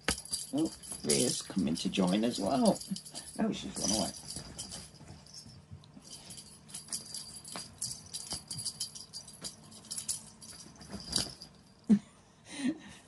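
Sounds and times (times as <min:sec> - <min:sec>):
small bell jingling: 0:00.0 - 0:11.9.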